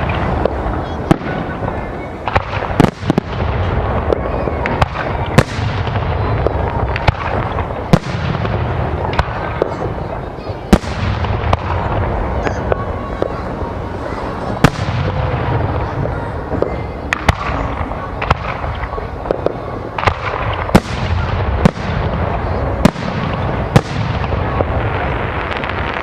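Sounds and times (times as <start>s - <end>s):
shells bursting rumble and crackle: 0.0s - 9.9s, 10.7s - 13.4s, 14.6s - 26.0s
firework bangs: 0.0s - 26.0s.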